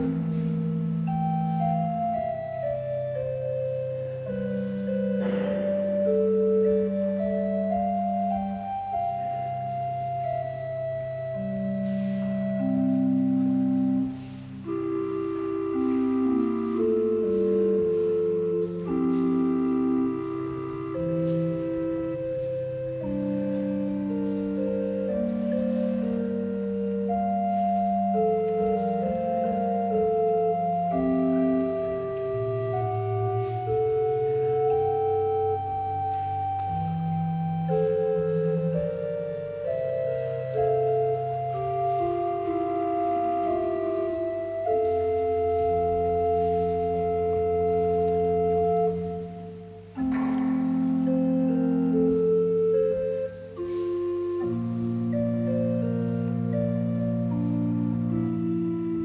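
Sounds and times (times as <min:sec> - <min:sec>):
slow organ music: 0:00.0 - 0:59.0.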